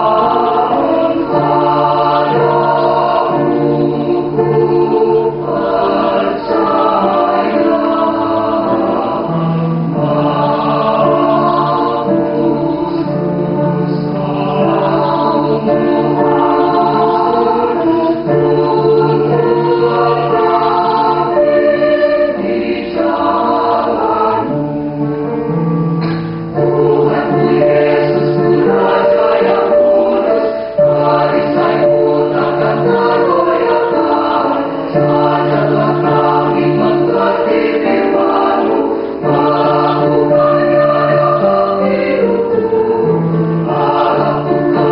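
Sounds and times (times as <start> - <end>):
mixed choir singing: 0.0 - 44.9.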